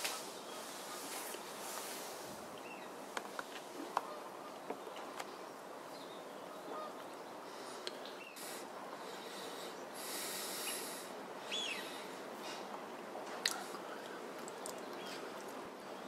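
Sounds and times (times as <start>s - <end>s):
steady outdoor hiss: 0.0s - 16.0s
distant waterbird calls: 0.3s - 12.7s, 13.4s - 16.0s.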